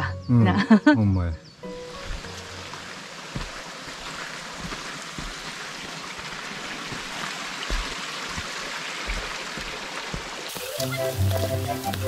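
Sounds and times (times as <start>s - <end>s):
stream rushing over rocks: 1.9s - 12.0s.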